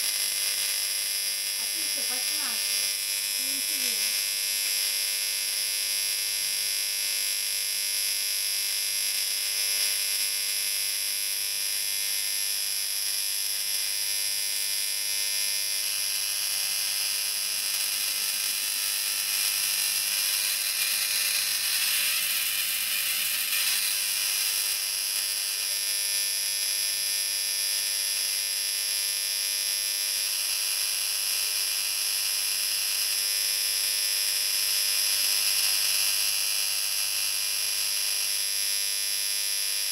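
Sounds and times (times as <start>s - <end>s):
electric arc buzzing and crackling: 0.0s - 39.9s.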